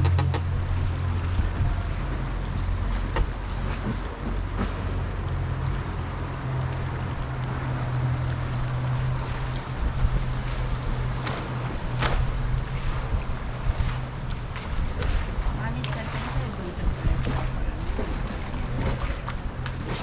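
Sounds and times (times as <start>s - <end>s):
motorboat engine humming: 0.0s - 20.0s
water noise: 0.0s - 20.0s.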